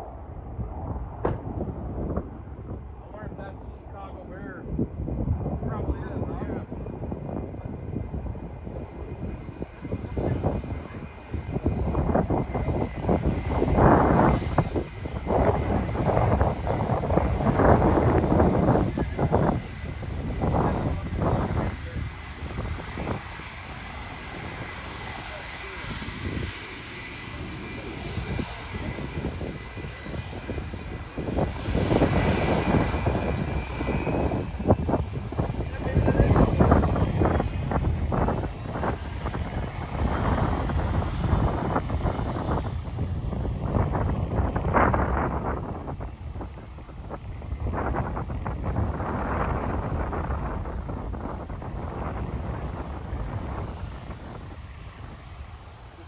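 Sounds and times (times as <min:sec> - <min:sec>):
airliner engine rumble: 0:00.0 - 0:56.0
high jet whine: 0:00.7 - 0:56.0.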